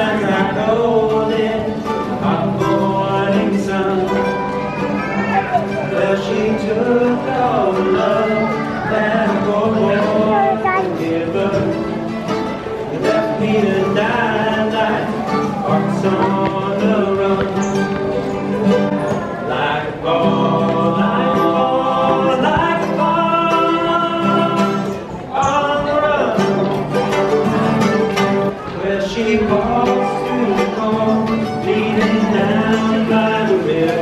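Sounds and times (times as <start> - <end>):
acoustic guitar: 0.0 - 34.0
mandolin: 0.0 - 34.0
two men singing: 0.0 - 34.0.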